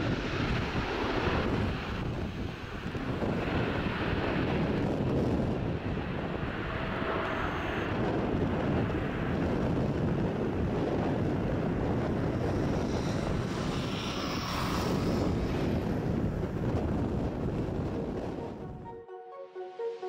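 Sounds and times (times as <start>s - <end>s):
jet engines roaring: 0.0s - 18.7s
wind buffeting on microphone: 0.0s - 18.8s.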